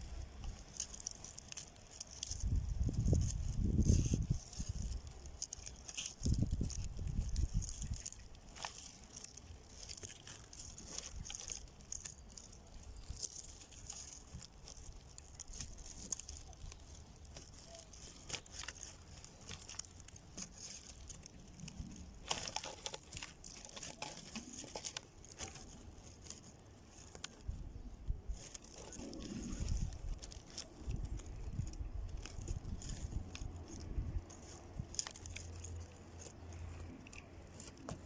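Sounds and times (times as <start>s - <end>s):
dry leaves and twigs rustling: 0.0s - 38.0s.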